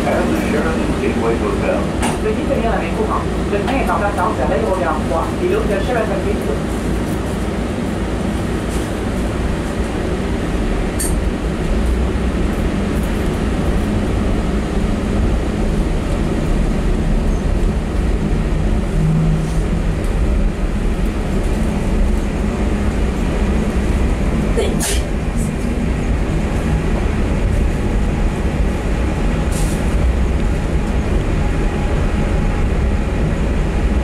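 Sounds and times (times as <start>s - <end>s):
people-mover car rumbling: 0.0s - 34.0s.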